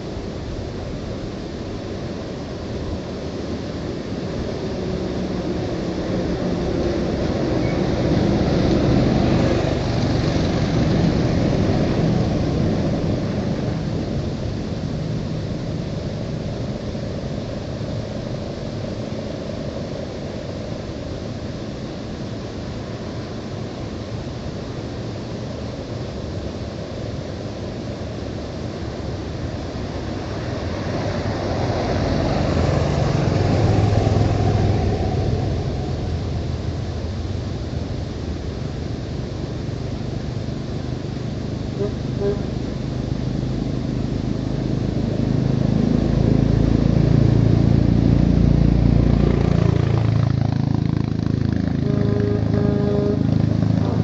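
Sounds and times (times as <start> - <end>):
constant traffic rushing noise: 0.0 - 54.0
vehicles passing close: 1.4 - 54.0.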